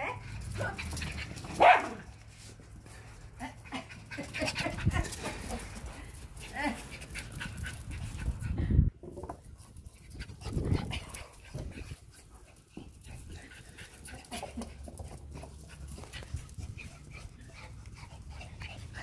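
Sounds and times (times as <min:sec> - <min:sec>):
dogs panting and scuffling: 0:00.0 - 0:19.0.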